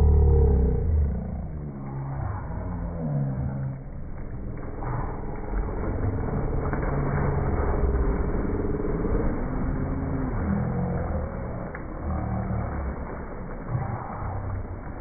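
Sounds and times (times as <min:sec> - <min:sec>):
motor running with low rumble: 0:00.0 - 0:15.0.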